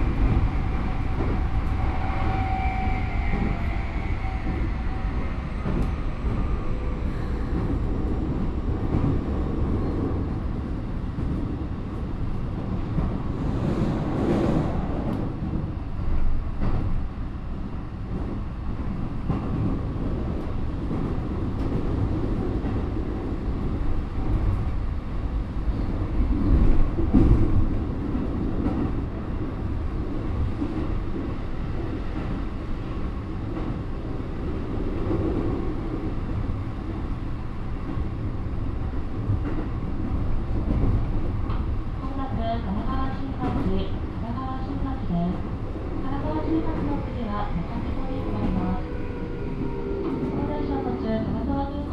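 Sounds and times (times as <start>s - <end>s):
train wheels rumbling on track: 0.0s - 51.9s.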